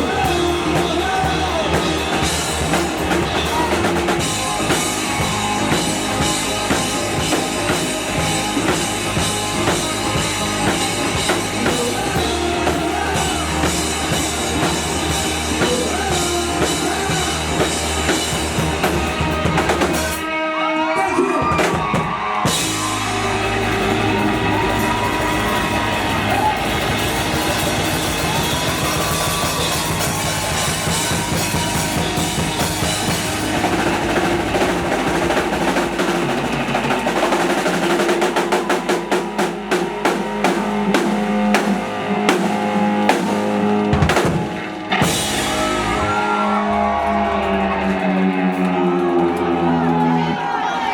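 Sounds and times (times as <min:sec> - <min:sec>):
driving drum kit: 0:00.0 - 0:20.3, 0:21.0 - 0:50.9
live rock band playing: 0:00.0 - 0:50.7.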